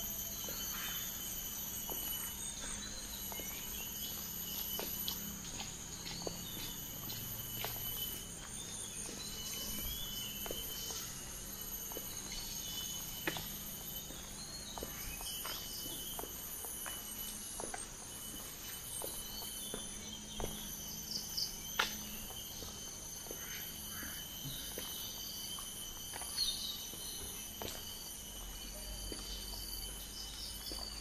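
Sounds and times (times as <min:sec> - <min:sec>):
crickets chirping: 0:00.0 - 0:31.0
footsteps on a path: 0:00.1 - 0:31.0.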